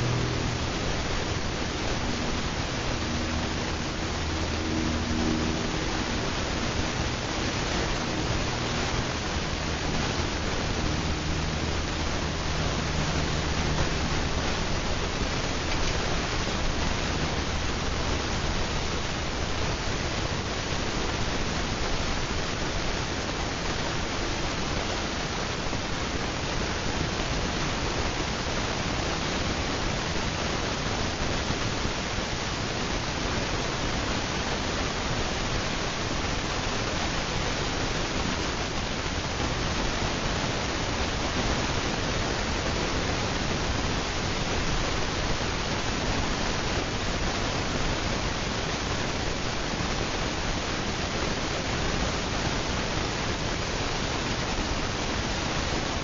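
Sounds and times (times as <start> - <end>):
ceiling fan hissing: 0.0 - 56.0.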